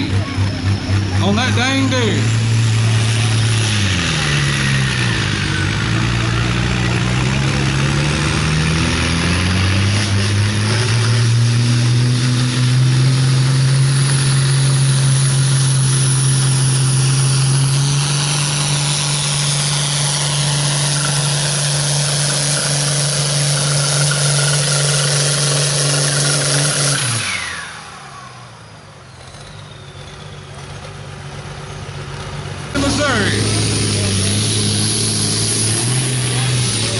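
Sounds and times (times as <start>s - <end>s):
tractor diesel engine at full throttle: 0.0s - 36.9s.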